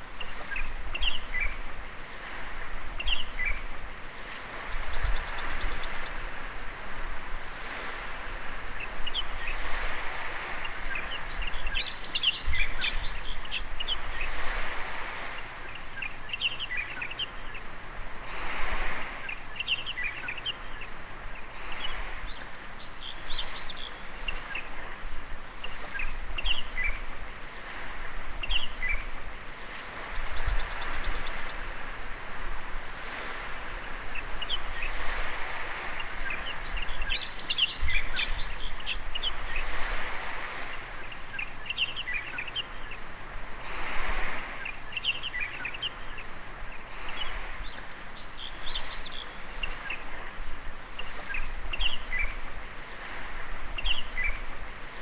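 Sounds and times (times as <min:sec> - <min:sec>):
birds chirping: 0:00.0 - 0:07.0, 0:07.6 - 0:17.8, 0:18.7 - 0:32.3, 0:32.9 - 0:55.0
small waves washing onto beach: 0:00.0 - 0:55.0.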